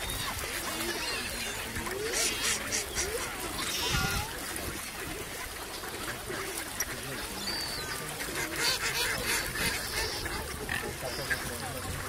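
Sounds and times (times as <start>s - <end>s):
ducks and swans calling: 0.0s - 12.0s.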